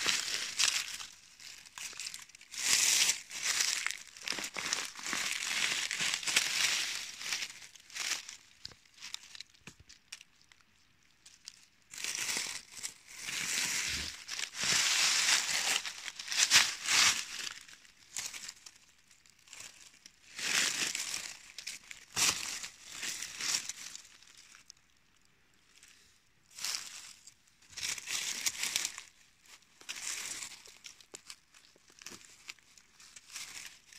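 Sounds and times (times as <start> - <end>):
dry leaves crackling and rustling: 0.0 - 10.6, 11.3 - 24.8, 26.5 - 33.9.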